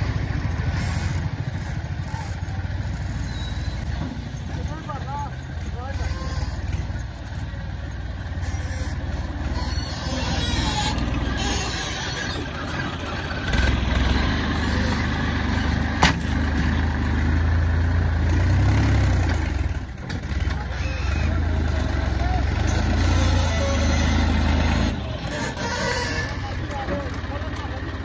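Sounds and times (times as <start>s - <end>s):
loader digging soil: 0.0s - 28.0s
tractor diesel engine under load: 0.0s - 28.0s.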